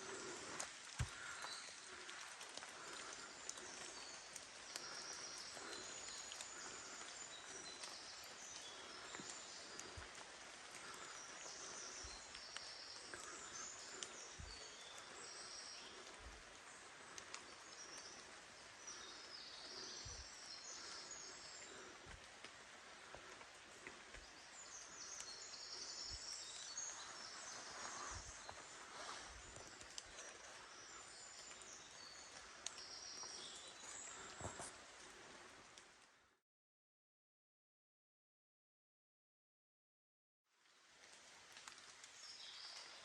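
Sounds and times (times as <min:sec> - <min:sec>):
small birds chirping and trilling: 0:00.0 - 0:34.8.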